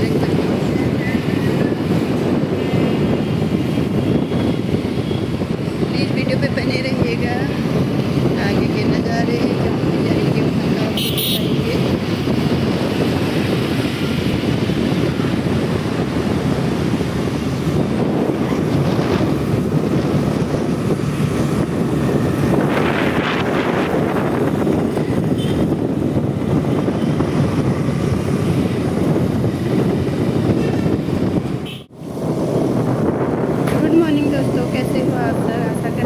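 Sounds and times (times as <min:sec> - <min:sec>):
motorbike ride rumble: 0:00.0 - 0:36.0
street traffic: 0:00.0 - 0:36.0
wind buffeting microphone: 0:00.0 - 0:36.0.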